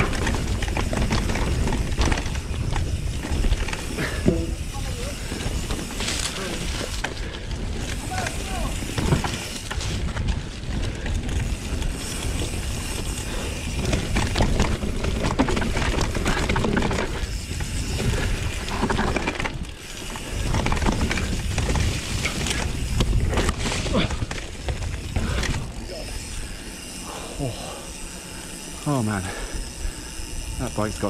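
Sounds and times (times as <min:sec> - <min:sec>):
tyres rumbling over dirt: 0:00.0 - 0:26.3
bike rattling over bumps: 0:00.0 - 0:31.0.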